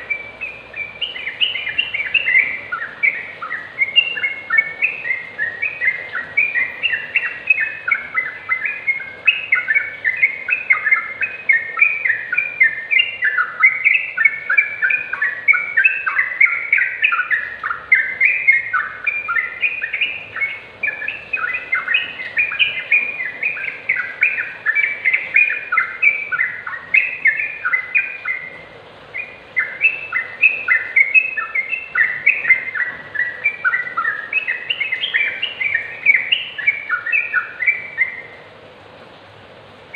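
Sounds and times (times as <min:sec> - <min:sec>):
bird singing chattering notes: 0:00.0 - 0:38.3.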